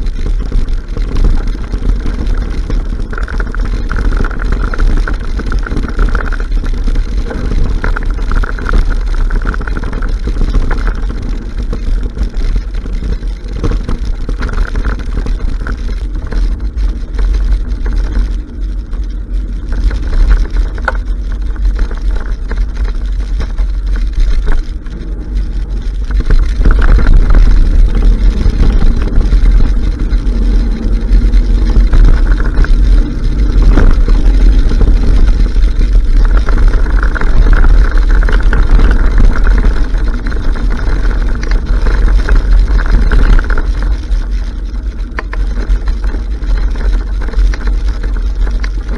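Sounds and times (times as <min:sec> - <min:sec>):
tyres rolling over dirt: 0:00.0 - 0:48.9
wind buffeting microphone: 0:00.0 - 0:48.9.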